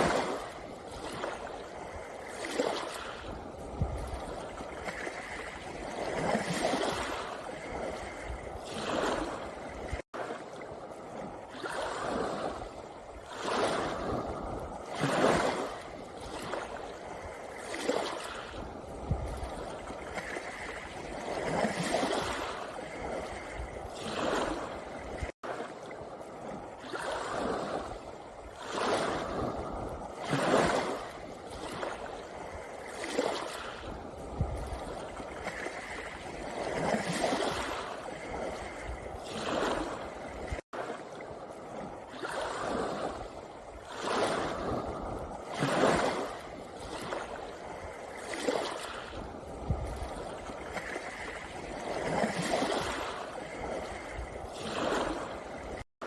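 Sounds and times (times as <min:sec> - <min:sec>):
waves washing over pebbles: 0:00.0 - 0:55.9.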